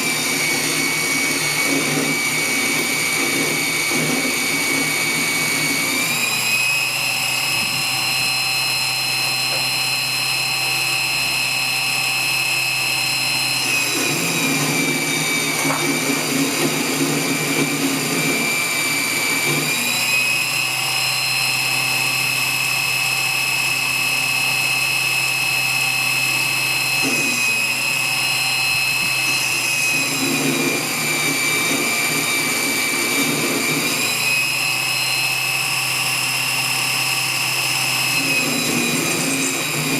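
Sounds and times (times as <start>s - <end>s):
lathe machine whine: 0.0s - 39.9s.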